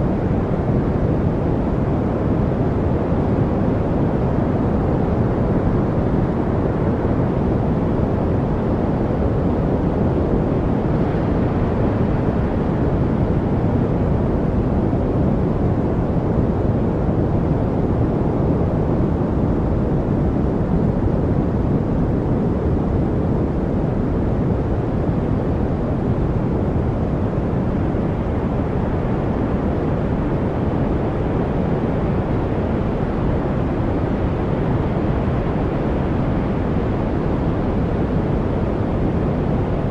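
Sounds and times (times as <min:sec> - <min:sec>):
deep steady noise rush: 0:00.0 - 0:39.9.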